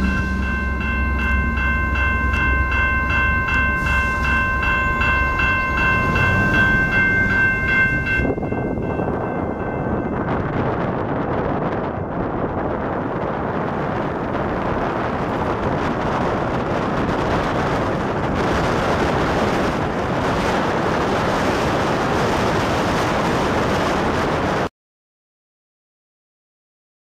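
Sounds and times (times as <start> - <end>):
wind buffeting microphone: 0.0 - 24.7.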